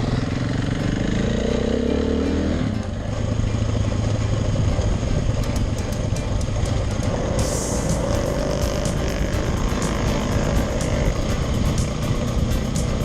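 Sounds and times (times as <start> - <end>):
dirt bike engine revving: 0.0 - 5.4, 7.0 - 13.0.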